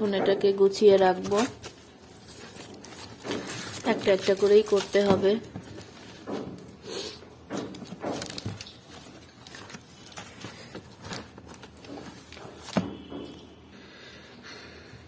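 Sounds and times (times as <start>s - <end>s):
cardboard and plastic wrap rustling: 0.2s - 6.8s, 7.4s - 13.4s.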